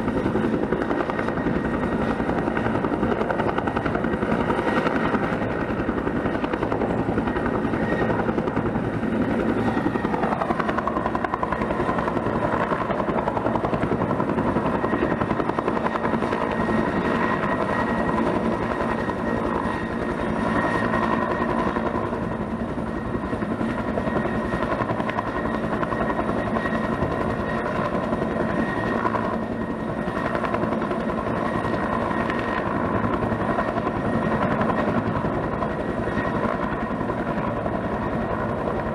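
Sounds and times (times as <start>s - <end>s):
helicopter rotor beat: 0.0s - 38.9s.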